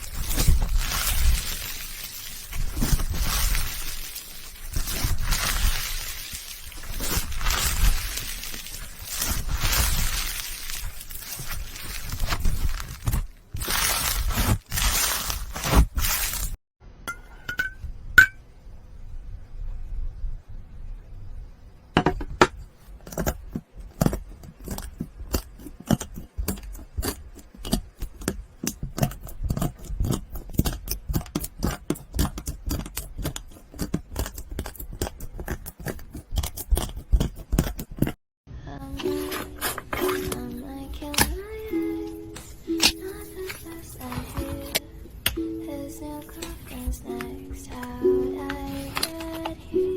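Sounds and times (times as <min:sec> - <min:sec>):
slime rustling: 0:00.0 - 0:16.6, 0:23.2 - 0:38.2, 0:39.0 - 0:45.2, 0:45.8 - 0:49.8.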